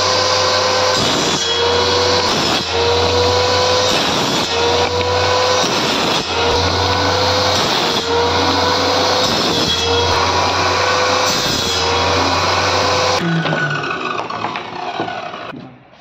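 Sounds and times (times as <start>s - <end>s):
table saw whining and cutting: 0.0s - 15.6s.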